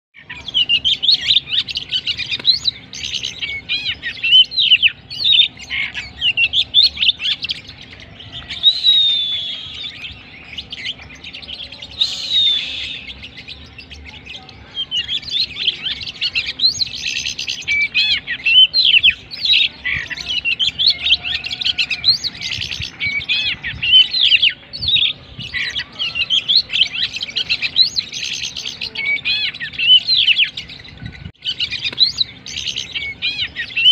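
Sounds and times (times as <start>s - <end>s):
bird singing whistles and trills: 0.2s - 33.9s.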